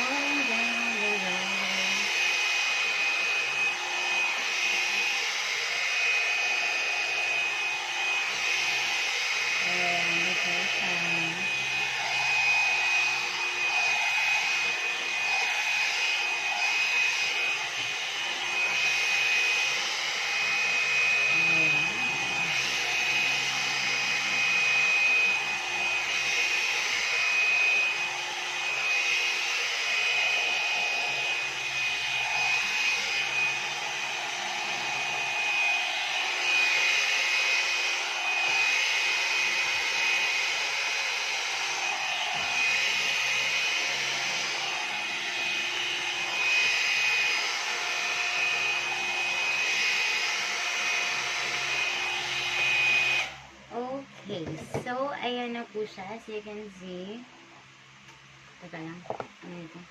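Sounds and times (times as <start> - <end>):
hair dryer blowing with whine: 0.0 - 59.9.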